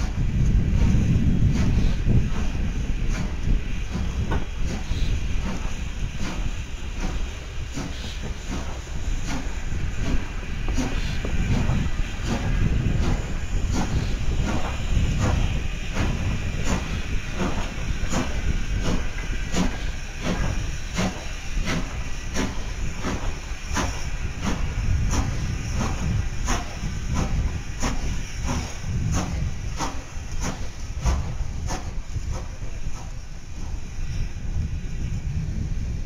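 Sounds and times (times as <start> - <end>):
low rumble: 0.0 - 36.0
steam hiss: 0.0 - 36.0
steam locomotive exhaust chuffs: 0.0 - 36.0.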